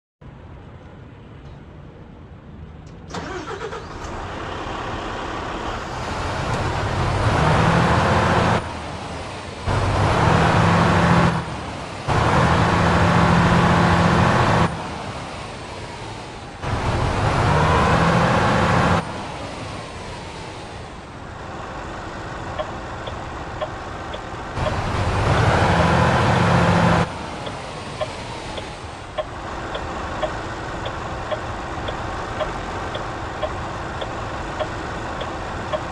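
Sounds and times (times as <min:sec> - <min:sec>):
diesel truck engine revving: 0:03.1 - 0:35.9.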